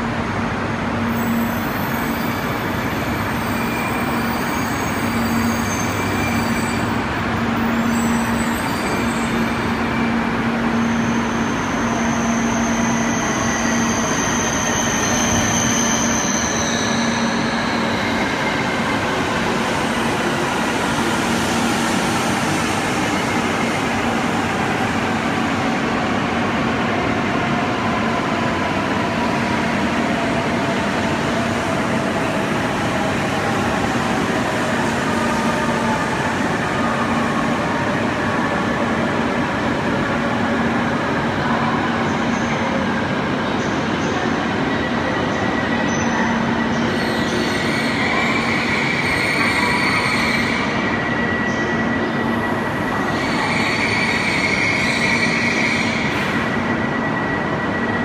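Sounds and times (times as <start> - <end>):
train rumbling into station: 0.0 - 58.0.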